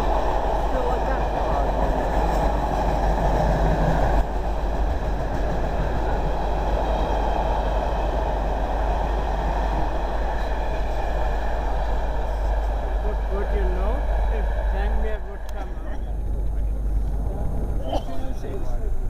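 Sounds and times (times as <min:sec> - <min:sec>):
wheel-on-rail noise: 0:00.0 - 0:18.9
freight train rolling past: 0:00.0 - 0:19.0.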